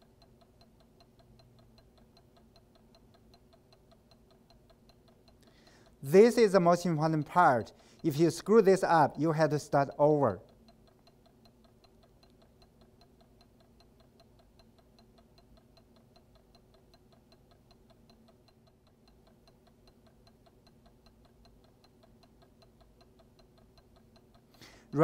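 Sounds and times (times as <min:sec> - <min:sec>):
magnetic stirrer ticking: 0:00.0 - 0:25.0.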